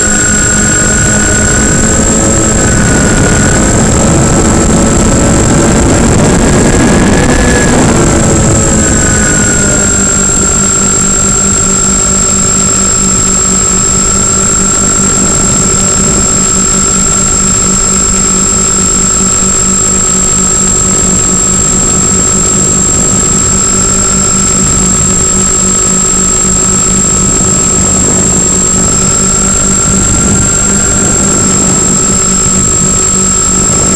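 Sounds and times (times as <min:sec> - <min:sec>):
electric motors and propellers: 0:00.0 - 0:33.9
rushing air noise: 0:00.0 - 0:33.9
steady high-pitched tone: 0:00.0 - 0:33.9.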